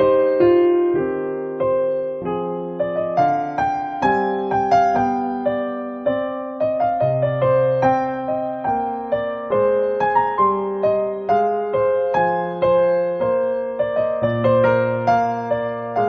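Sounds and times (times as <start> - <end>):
gentle keyboard melody: 0.0 - 16.0.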